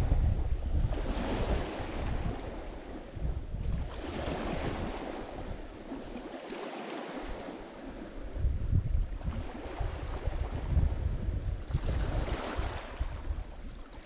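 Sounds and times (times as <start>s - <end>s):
waves breaking on shore: 0.0s - 14.0s
wind rumble on microphone: 0.0s - 14.0s.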